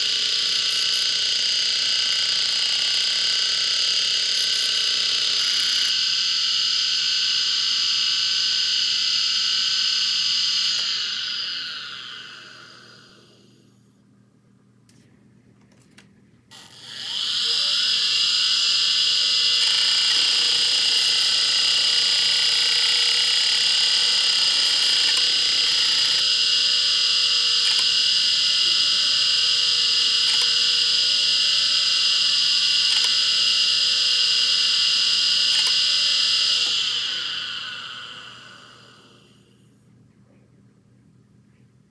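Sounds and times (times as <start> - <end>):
hard drive spindle whine: 0.0 - 13.8, 16.5 - 39.8.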